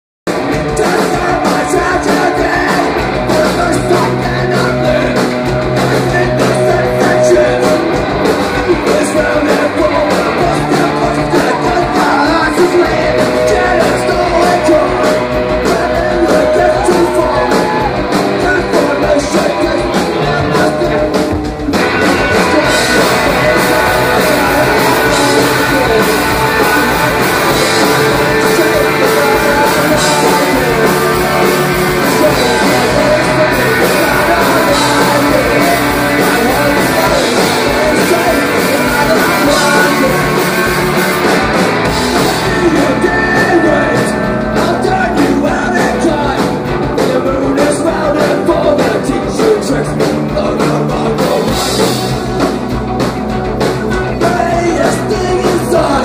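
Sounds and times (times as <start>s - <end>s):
live rock band playing: 0.3s - 56.0s
person singing: 0.4s - 52.8s, 53.5s - 56.0s.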